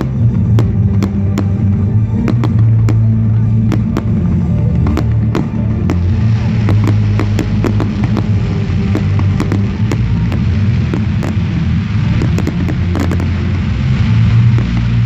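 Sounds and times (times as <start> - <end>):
fireworks banging: 0.0 - 15.0
fireworks crackling hiss: 0.0 - 15.0
loud music with heavy bass: 0.0 - 15.0.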